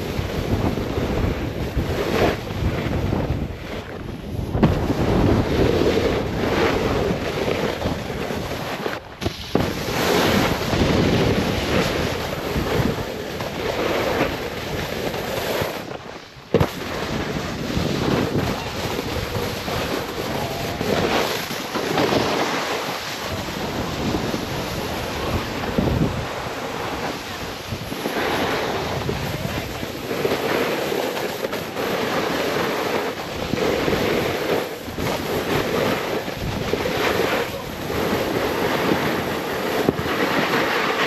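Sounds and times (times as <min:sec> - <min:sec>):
snowboard scraping through slush: 0:00.0 - 0:41.0
wind rushing over microphone: 0:00.0 - 0:41.0.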